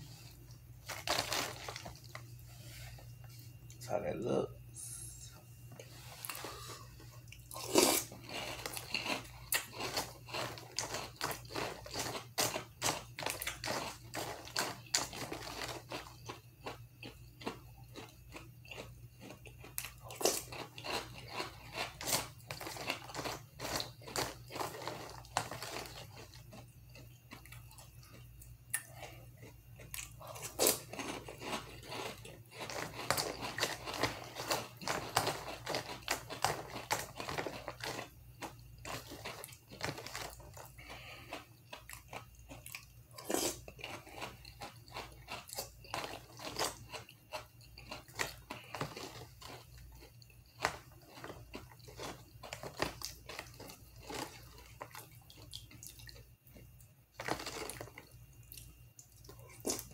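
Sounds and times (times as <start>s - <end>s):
chewing crunchy cereal: 0.0s - 4.0s, 5.7s - 59.9s.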